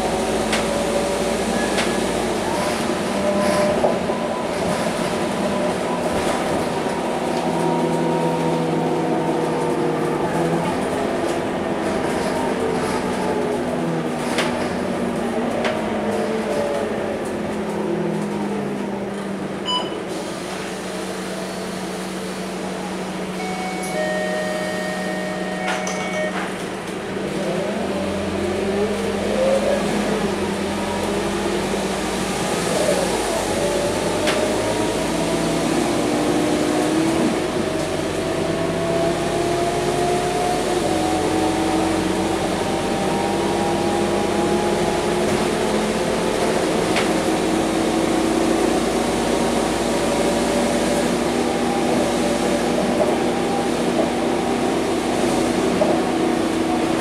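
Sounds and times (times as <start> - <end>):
bus diesel engine humming: 0.0 - 57.0.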